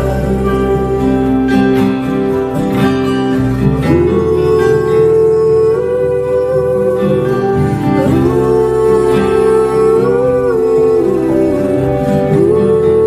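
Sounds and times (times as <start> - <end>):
person singing sliding ooh notes: 0.0 - 2.4, 3.8 - 13.0
guitar accompaniment: 0.0 - 13.0.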